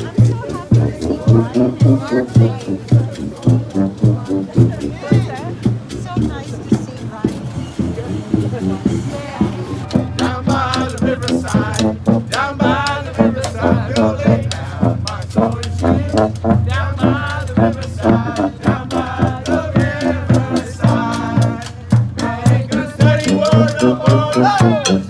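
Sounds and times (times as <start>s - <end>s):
brass band horns melody: 0.0s - 25.0s
steady drum beat: 0.0s - 25.0s.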